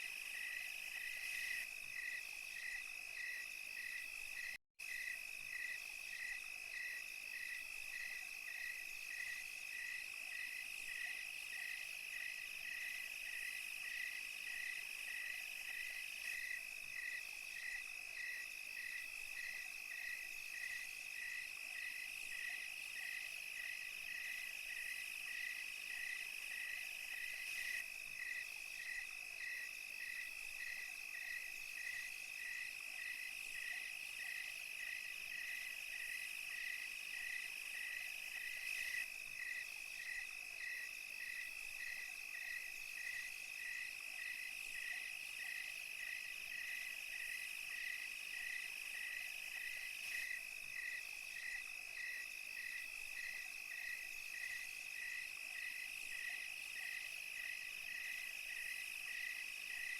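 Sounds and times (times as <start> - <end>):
crickets trilling: 0.0 - 59.9
faint high insect buzz: 0.0 - 59.9
pulsing insect chirps: 0.0 - 59.9.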